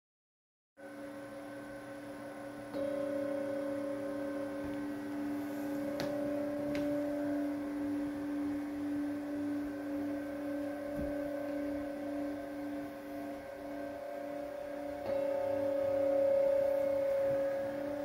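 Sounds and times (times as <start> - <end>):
singing bowls ringing: 0.8 - 18.0.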